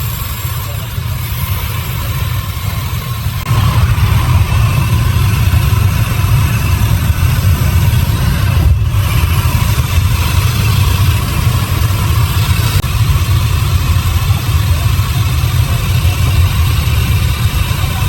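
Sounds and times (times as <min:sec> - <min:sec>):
sawmill machinery engine drone: 0:00.0 - 0:18.0.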